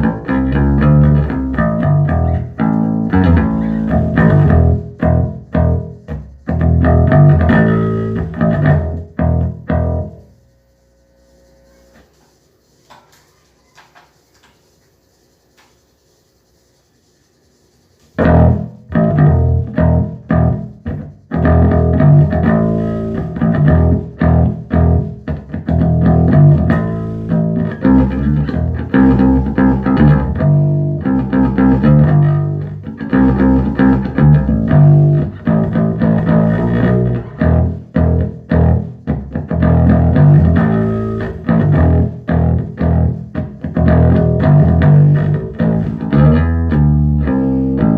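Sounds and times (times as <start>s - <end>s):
electric bass guitar plucked notes: 0.0s - 10.3s, 18.2s - 47.9s.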